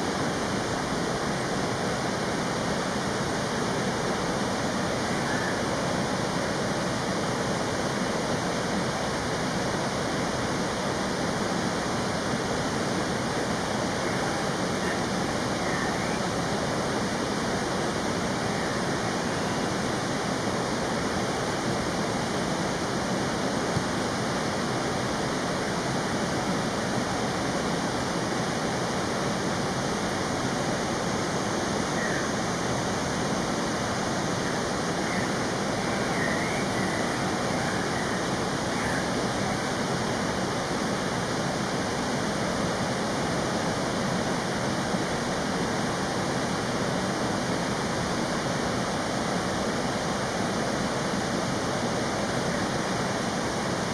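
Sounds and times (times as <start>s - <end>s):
rushing flowing water: 0.0s - 53.9s.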